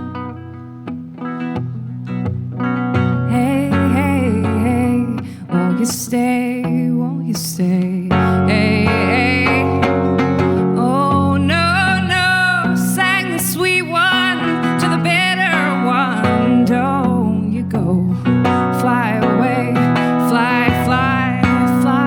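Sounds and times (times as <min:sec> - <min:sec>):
strummed acoustic guitar: 0:00.0 - 0:22.0
person singing wordless melody: 0:03.2 - 0:22.0.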